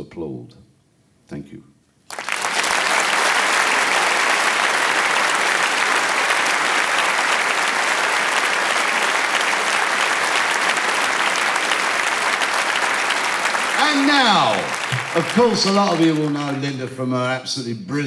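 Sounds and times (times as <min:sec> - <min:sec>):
audience applauding: 0:02.1 - 0:17.4.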